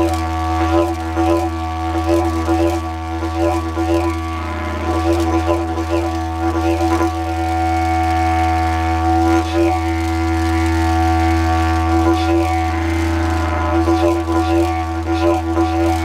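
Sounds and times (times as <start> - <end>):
didgeridoo drone: 0.0 - 16.0.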